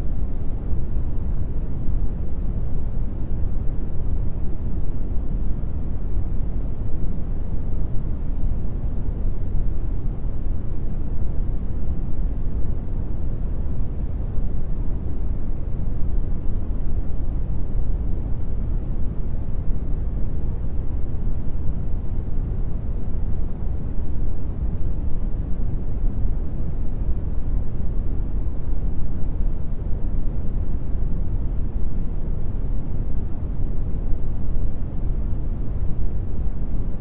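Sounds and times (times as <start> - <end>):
brown noise hiss: 0.0 - 37.0.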